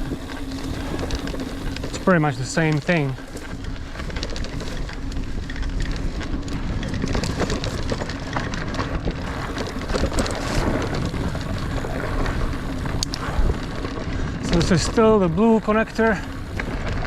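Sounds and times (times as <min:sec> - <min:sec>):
bike clicks and rattles: 0:00.0 - 0:17.0
bike tyres rumbling on dirt: 0:00.0 - 0:17.0.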